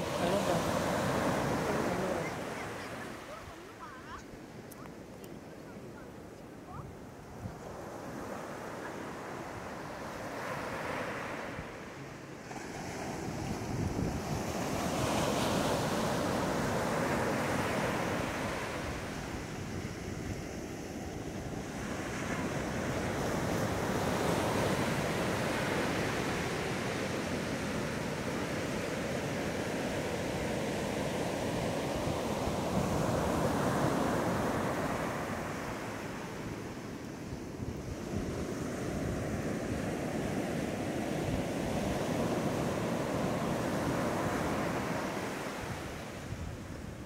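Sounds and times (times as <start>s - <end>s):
small waves breaking on sand: 0.0s - 47.0s.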